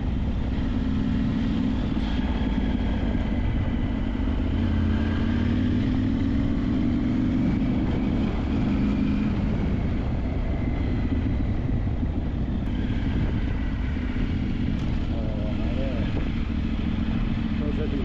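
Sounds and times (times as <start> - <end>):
vehicle engine running off-road: 0.0 - 18.0.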